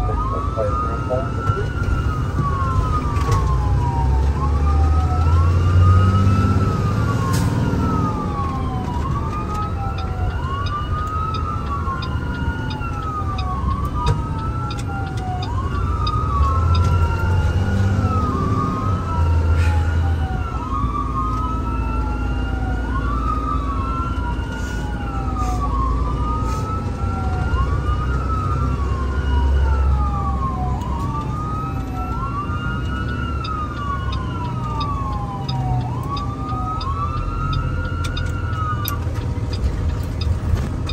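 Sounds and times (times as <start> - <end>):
emergency siren wailing: 0.0 - 40.9
engine rumble and road noise: 0.0 - 40.9.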